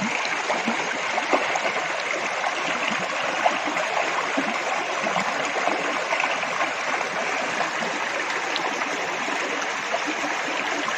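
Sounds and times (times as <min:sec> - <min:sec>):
stream water rushing: 0:00.0 - 0:10.9.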